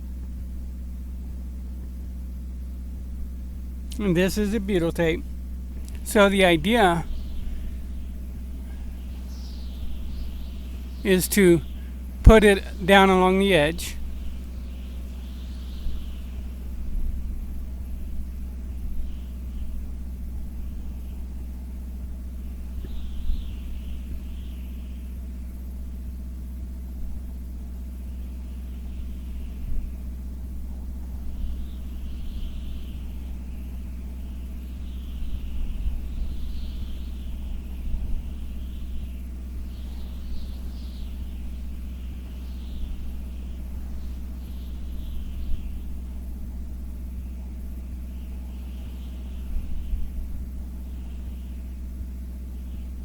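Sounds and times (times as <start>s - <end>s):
engine droning: 0.0s - 53.0s
low mechanical rumble with hum: 0.0s - 53.0s.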